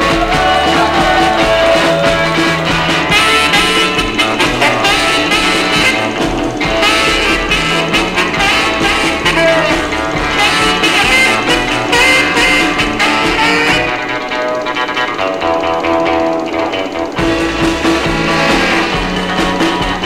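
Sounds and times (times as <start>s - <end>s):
stepping bass line: 0.0s - 14.2s, 17.1s - 20.0s
swing band music: 0.0s - 20.0s.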